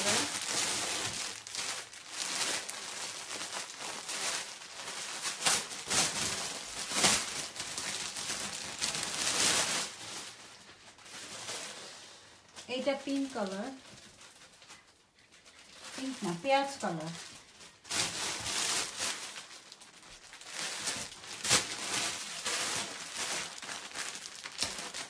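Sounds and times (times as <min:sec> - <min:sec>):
fabric rustling and crinkling: 0:00.0 - 0:25.0.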